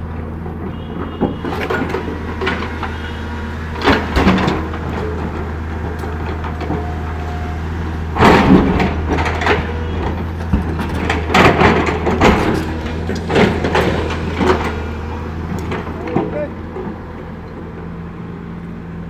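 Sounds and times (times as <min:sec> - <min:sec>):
excavator diesel engine running: 0:00.0 - 0:19.0
bucket scraping and clanking on rock: 0:00.4 - 0:07.2, 0:08.0 - 0:17.2.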